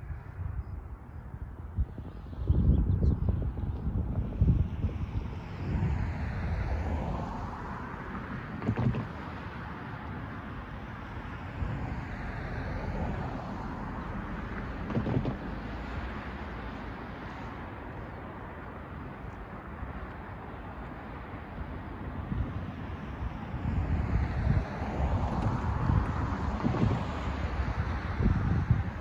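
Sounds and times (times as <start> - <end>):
wind noise on microphone: 0.0 - 29.0
cars driving past: 4.7 - 29.0.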